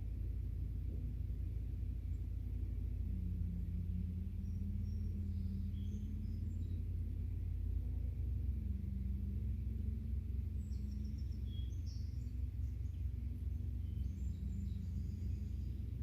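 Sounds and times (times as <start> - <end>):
faint hum: 0.0 - 16.0
low rumble: 0.0 - 16.0
birds chirping: 1.0 - 7.8, 8.4 - 16.0.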